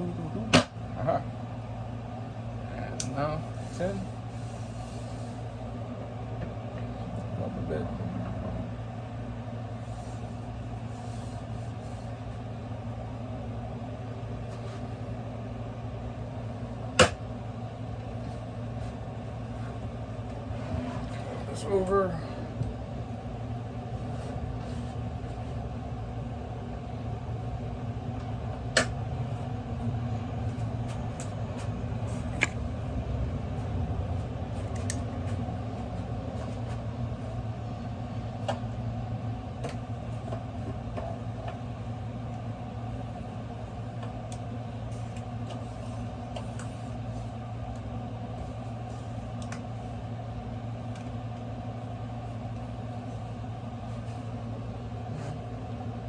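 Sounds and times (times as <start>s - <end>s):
low machine hum: 0.0s - 56.0s.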